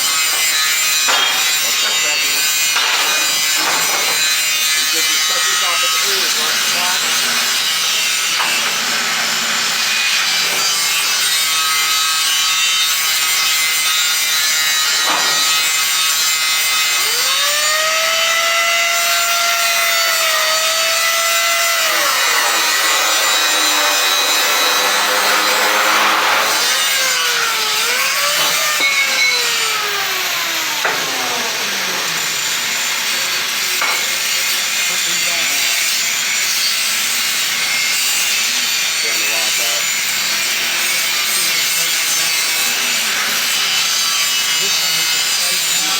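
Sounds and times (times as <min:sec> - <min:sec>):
power tool grinding metal: 0:00.0 - 0:45.9.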